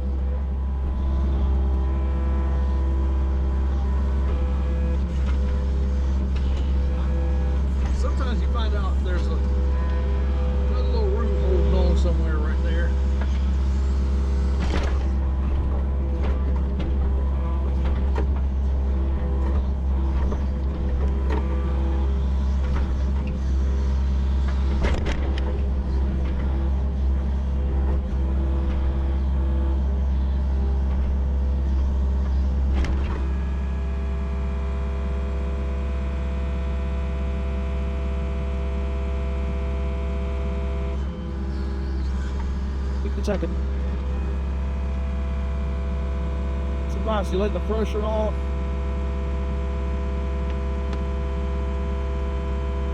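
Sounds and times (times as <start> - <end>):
diesel engine running: 0.0 - 52.9
hydraulics working: 0.0 - 52.9
steady whine: 0.0 - 52.9.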